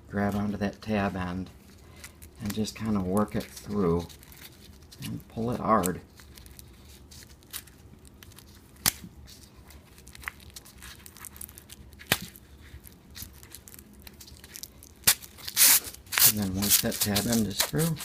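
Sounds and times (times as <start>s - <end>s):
strap webbing rustling: 1.5s - 18.0s.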